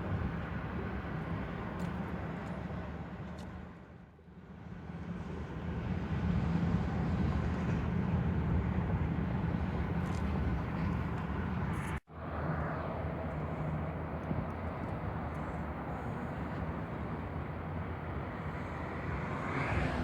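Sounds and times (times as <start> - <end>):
vehicle rumble and road noise: 0.0 - 20.0.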